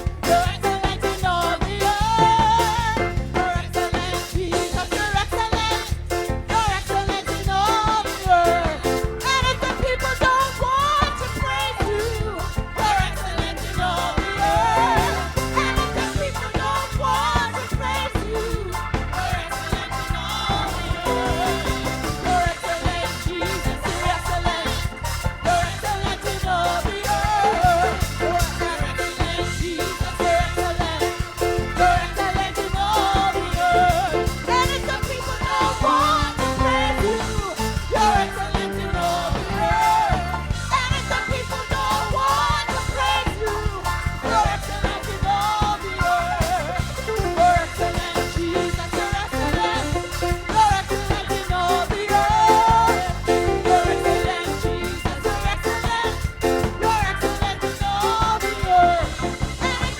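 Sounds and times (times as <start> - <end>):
church praise music with singing: 0.0 - 59.9.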